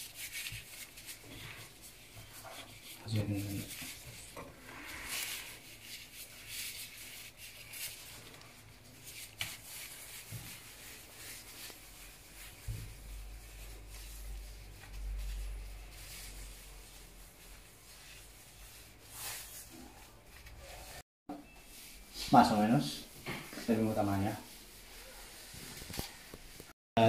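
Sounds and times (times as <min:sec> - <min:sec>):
gloved hands rubbing dough: 0:00.0 - 0:21.0, 0:21.7 - 0:26.8.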